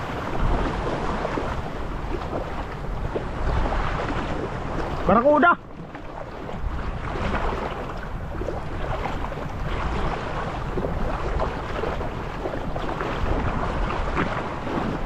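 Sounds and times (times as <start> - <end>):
small waves washing: 0.0 - 15.0
wind rumbling on microphone: 0.0 - 15.0.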